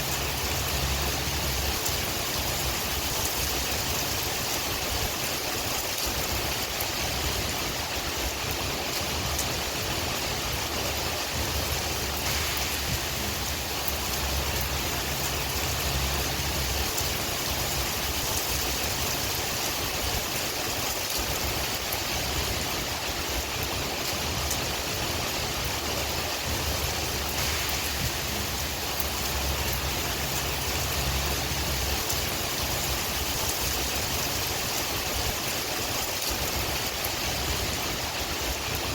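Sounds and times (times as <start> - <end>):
low wind rumble: 0.0 - 38.9
rain hissing: 0.0 - 38.9.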